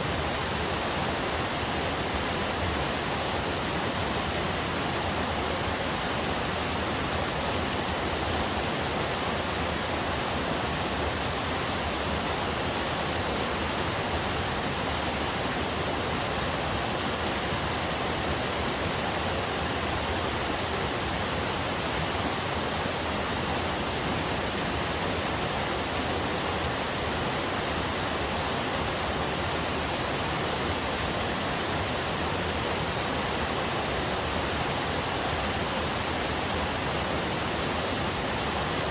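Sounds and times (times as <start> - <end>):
waterfall and river rushing: 0.0 - 38.9.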